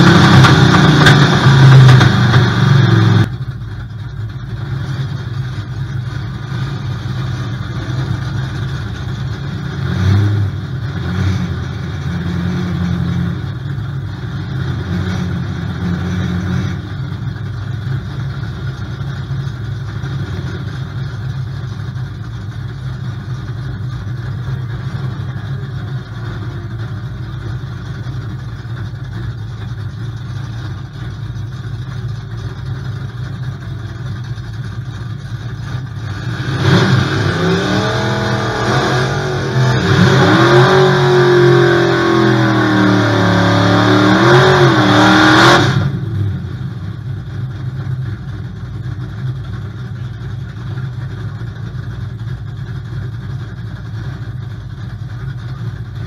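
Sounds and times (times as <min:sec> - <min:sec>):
car engine idling: 0:00.0 - 0:56.0
drag car engine revving: 0:00.0 - 0:56.0.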